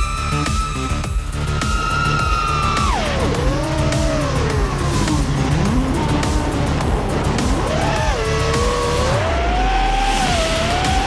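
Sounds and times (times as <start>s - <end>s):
music with steady beat: 0.0s - 11.0s
quadcopter propellers whining: 0.0s - 11.0s.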